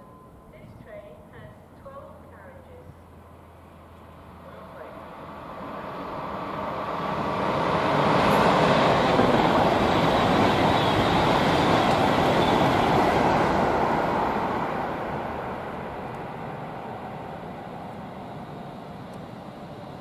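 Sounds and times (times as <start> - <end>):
passing train rumble: 0.0 - 20.0.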